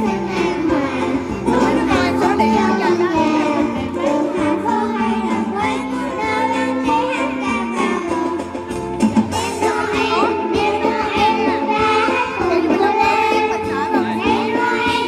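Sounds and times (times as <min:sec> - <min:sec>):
children singing: 0:00.0 - 0:08.6, 0:09.3 - 0:15.0
instrumental accompaniment: 0:00.0 - 0:15.0.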